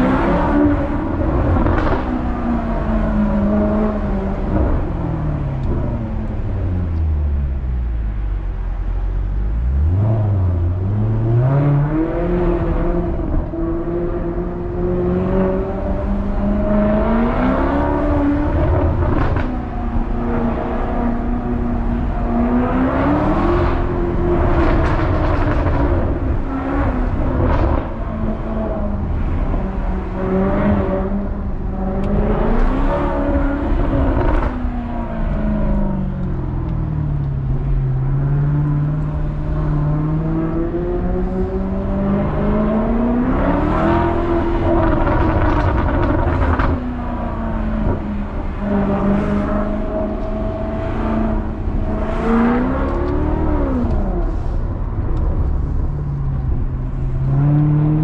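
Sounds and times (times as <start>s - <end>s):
car engine and loud exhaust: 0.0s - 58.0s.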